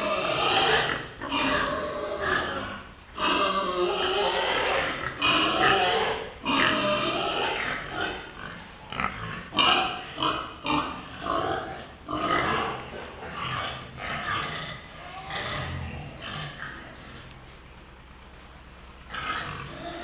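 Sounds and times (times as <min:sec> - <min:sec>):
pigs calling: 0:00.0 - 0:17.4, 0:18.9 - 0:20.0.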